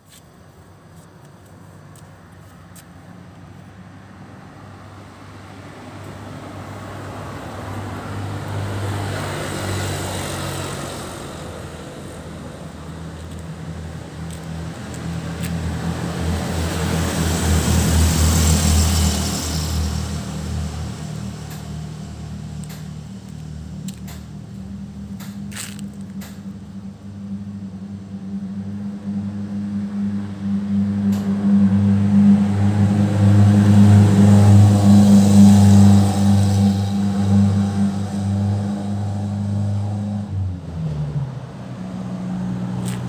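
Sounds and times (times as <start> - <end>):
vehicle engine hum: 0.0 - 43.0.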